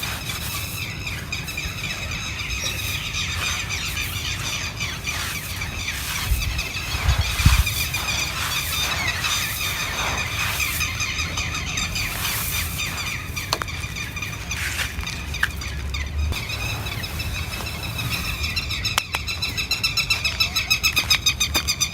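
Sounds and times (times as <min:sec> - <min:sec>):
bird chirping: 0:00.0 - 0:21.9.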